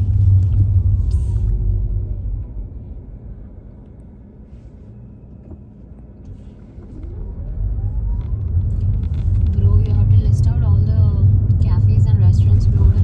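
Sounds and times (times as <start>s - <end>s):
car road and engine rumble: 0.0s - 13.0s
faint rising whine: 0.0s - 13.0s.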